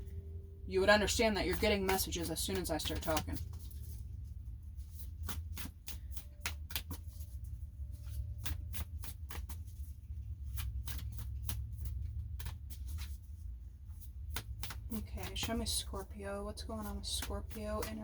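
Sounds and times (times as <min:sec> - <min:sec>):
low steady hum: 0:00.0 - 0:18.0
cards being shuffled: 0:01.0 - 0:18.0.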